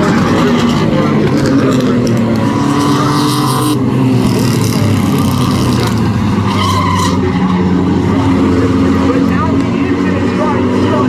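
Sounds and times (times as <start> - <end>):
race truck engines running hard: 0.0 - 11.0.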